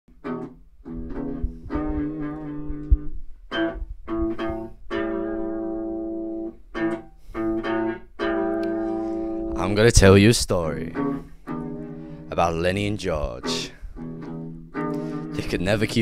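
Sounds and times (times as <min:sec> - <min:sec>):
plucked guitar notes: 0:00.1 - 0:16.0.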